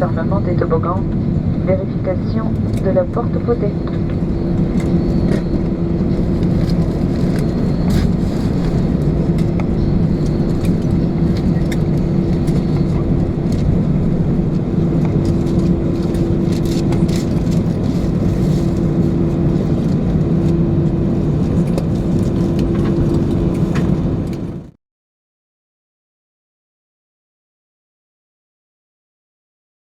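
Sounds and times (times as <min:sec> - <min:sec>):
airplane cabin hum: 0:00.0 - 0:24.8.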